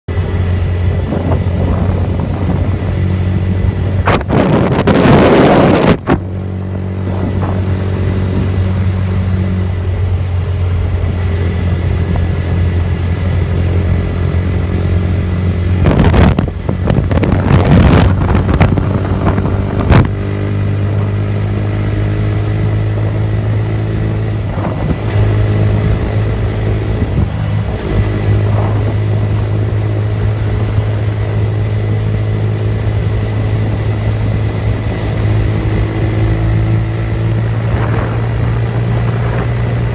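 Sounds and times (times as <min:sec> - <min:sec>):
motorcycle engine cruising: 0:00.1 - 0:39.9
wind noise gusts: 0:00.2 - 0:39.9.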